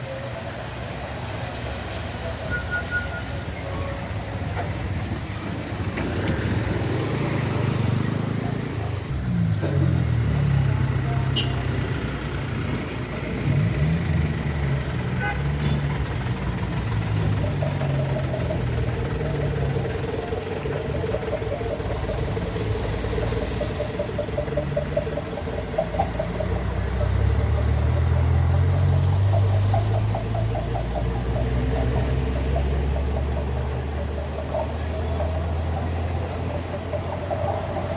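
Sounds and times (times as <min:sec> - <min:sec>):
trucks passing at low speed: 0:00.0 - 0:37.9.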